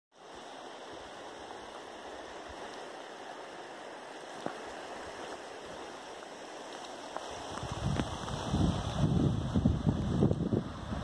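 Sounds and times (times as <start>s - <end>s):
waves lapping on pebbles: 0.2s - 11.0s.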